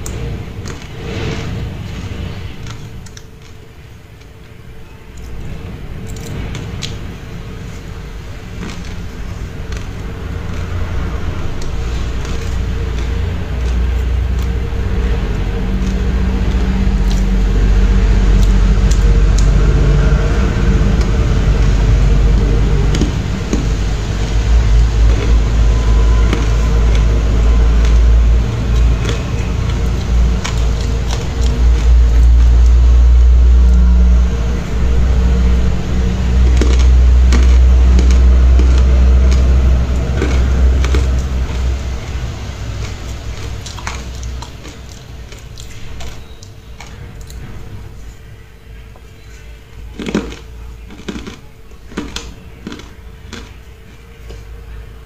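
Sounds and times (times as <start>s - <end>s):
chewing and crunching ice: 0.0s - 55.0s.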